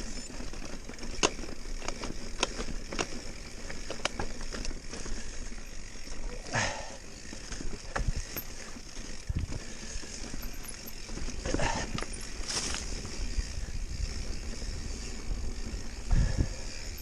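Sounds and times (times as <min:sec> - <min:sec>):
footsteps on rocky trail: 0:00.0 - 0:14.7
mountain bike knocks and clicks: 0:00.0 - 0:16.0, 0:16.6 - 0:17.0.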